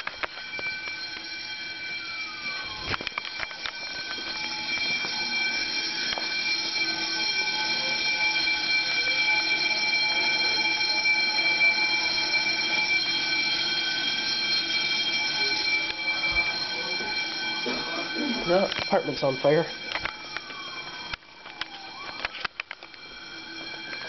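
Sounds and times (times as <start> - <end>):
fire alarm high tones: 0.0 - 24.0.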